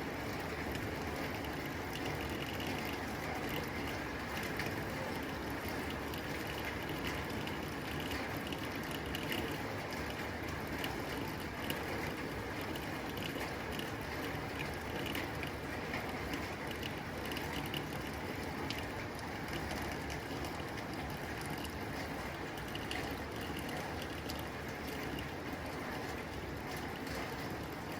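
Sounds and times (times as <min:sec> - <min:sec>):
rain on a tin roof: 0:00.0 - 0:27.9.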